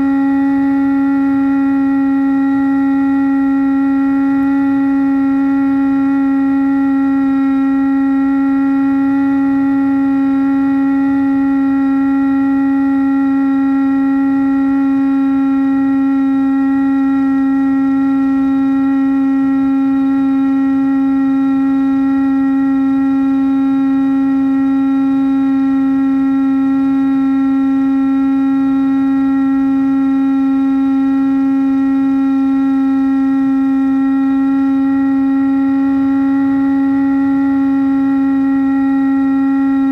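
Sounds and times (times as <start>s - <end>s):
model plane motor and propeller drone: 0.0s - 39.9s.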